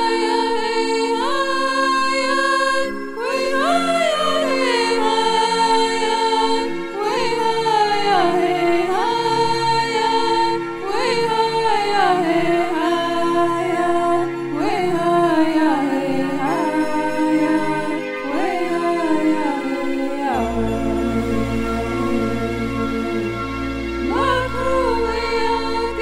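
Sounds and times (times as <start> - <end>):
chant-like melody: 0.0 - 26.0
steady drone: 2.3 - 26.0.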